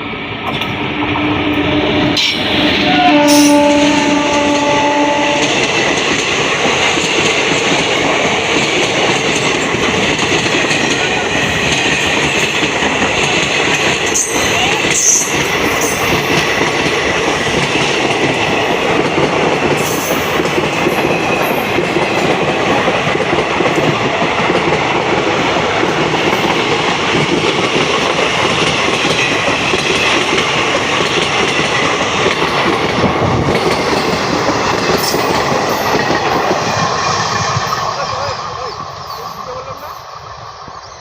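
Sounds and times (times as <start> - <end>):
train wheels rumbling on rails: 0.0 - 41.0
clickety-clack of wagons: 5.4 - 40.1.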